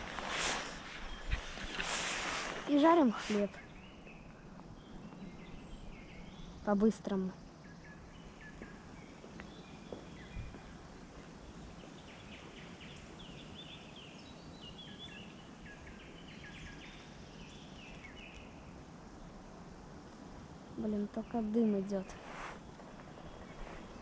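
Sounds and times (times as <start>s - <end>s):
small birds chirping: 0.0s - 19.5s, 20.6s - 24.0s
steady background hiss: 0.0s - 24.0s.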